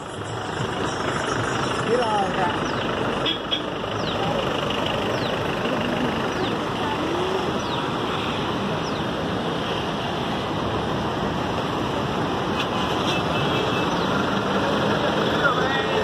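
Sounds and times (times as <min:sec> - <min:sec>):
floodwater roaring through spillway: 0:00.0 - 0:16.0.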